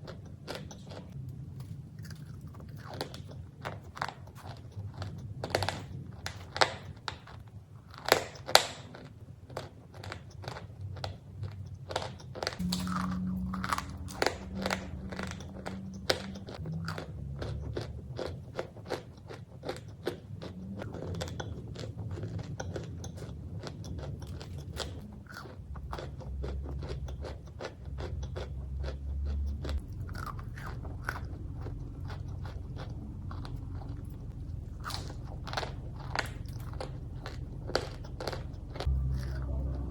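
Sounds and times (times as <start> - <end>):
chewing crunchy cookies: 0.0 - 39.9.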